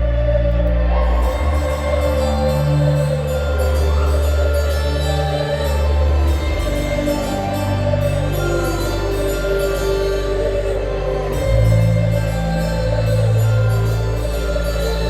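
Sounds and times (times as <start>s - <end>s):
music with deep sustained bass: 0.0s - 15.0s.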